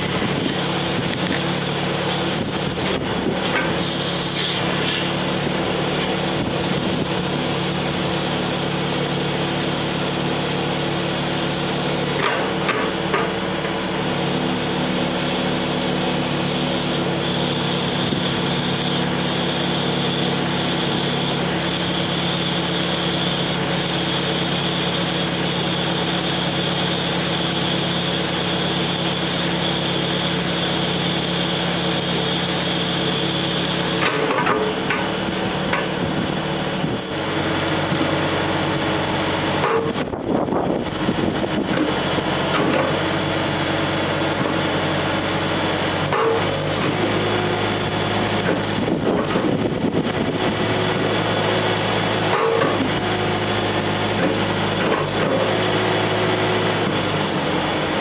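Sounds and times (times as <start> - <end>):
forklift engine running: 0.0 - 58.0.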